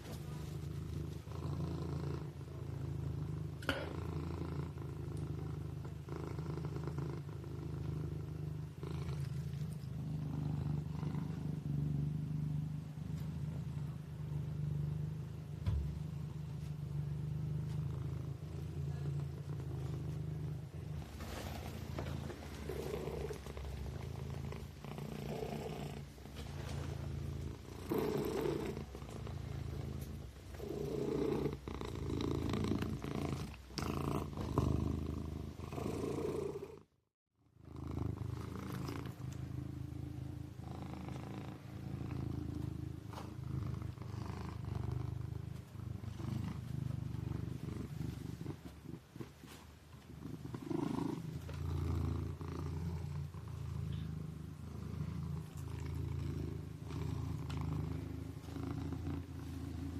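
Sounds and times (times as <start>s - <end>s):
kitten purring: 0.0s - 59.9s.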